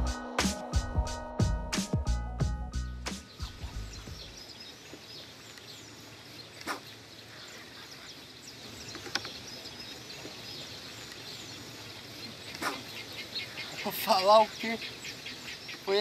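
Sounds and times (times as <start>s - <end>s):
steady outdoor hiss: 0.0s - 16.0s
small birds chirping: 2.7s - 16.0s.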